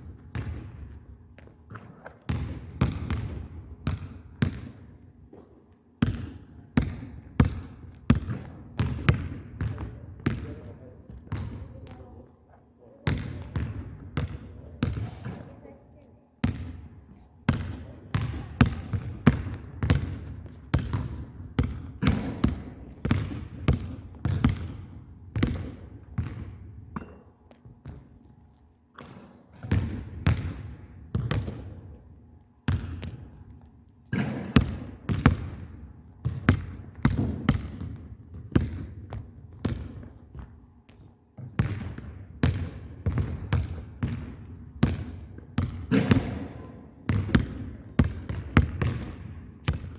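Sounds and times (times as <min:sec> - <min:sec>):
basketball bouncing on gym floor: 0:00.0 - 0:12.3, 0:13.0 - 0:15.8, 0:16.4 - 0:28.3, 0:29.0 - 0:49.9.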